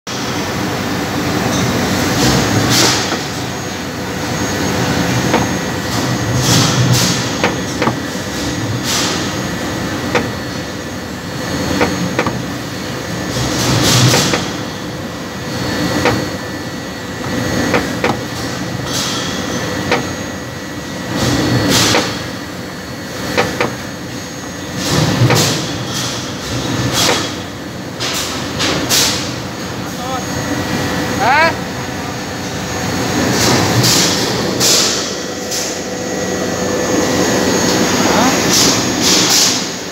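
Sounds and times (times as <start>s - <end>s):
steady mechanical din: 0.1s - 39.9s.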